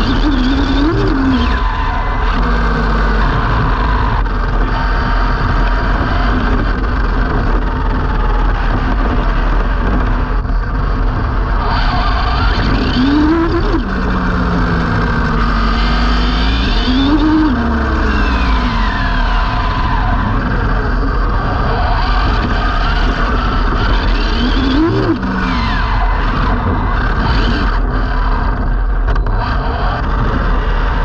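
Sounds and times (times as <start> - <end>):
electric motor whine: 0.0 - 29.7
wind rumble on microphone: 0.0 - 31.0.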